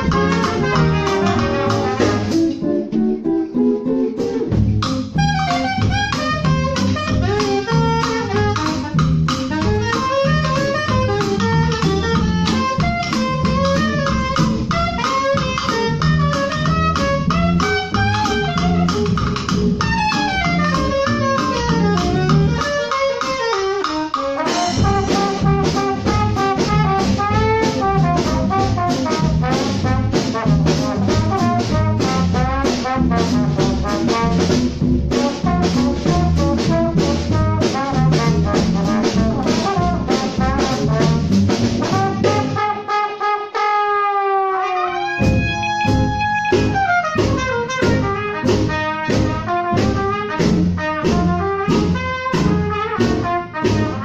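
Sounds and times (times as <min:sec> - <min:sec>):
trombone and trumpet: 0:00.0 - 0:03.5, 0:04.4 - 0:54.0
jazz band playing: 0:00.0 - 0:54.0.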